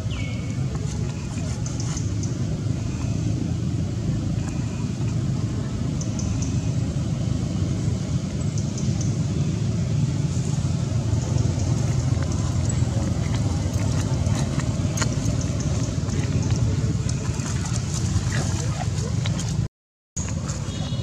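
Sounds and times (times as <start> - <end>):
motorbike traffic rumble: 0.0 - 21.0.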